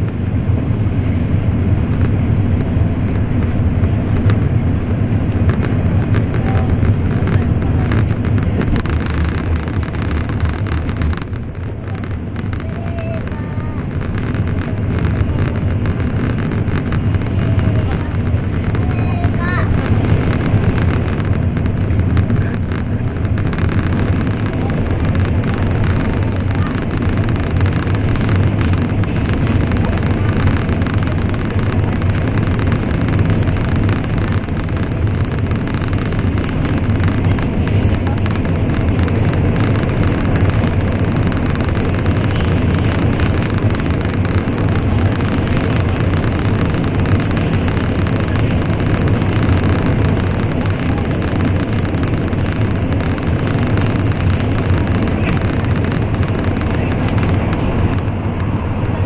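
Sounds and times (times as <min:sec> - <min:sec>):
train cabin running rumble: 0:00.0 - 0:59.0.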